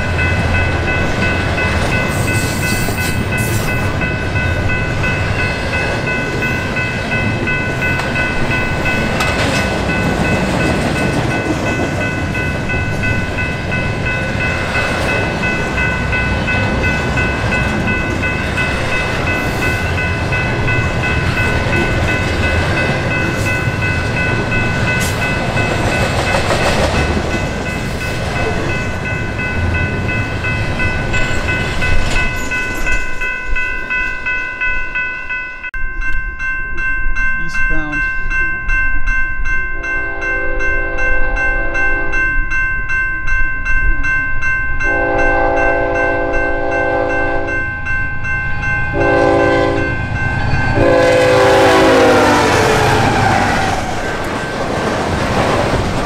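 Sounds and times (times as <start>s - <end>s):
train rolling past: 0.0s - 56.0s.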